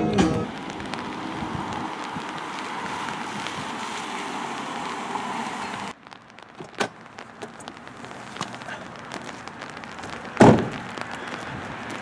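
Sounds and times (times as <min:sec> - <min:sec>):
tyres hissing on wet street: 0:00.0 - 0:12.0.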